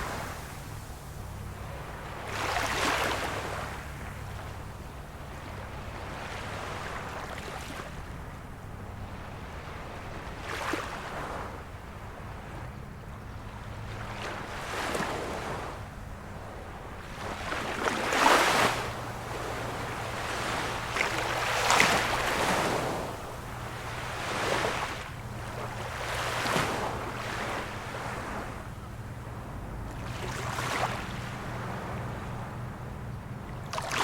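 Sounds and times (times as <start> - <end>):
small waves washing ashore: 0.0 - 34.0.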